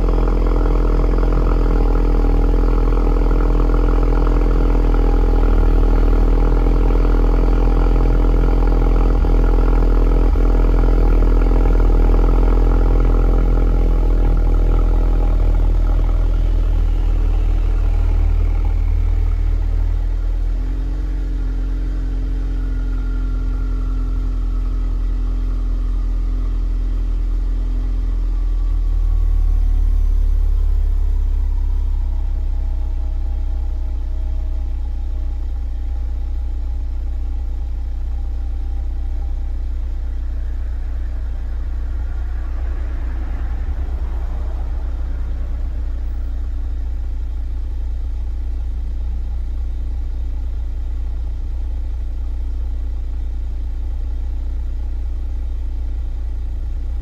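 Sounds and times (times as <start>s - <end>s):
car engine idling: 0.0s - 57.0s
high-pitched whine: 0.0s - 57.0s.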